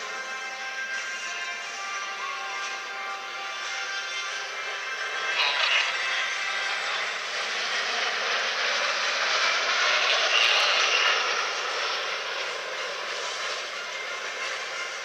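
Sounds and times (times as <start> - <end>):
jet engines passing overhead: 0.0 - 15.0.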